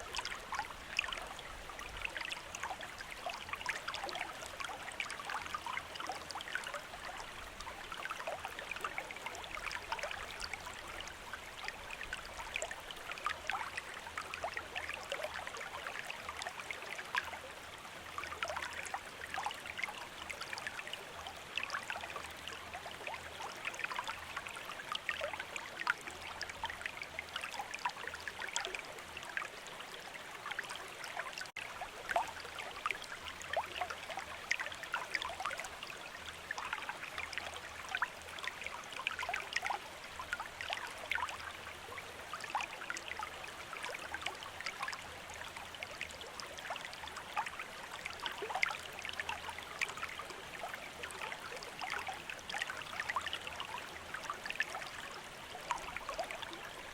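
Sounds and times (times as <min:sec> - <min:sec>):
stream babbling over stones: 0:00.0 - 0:56.9.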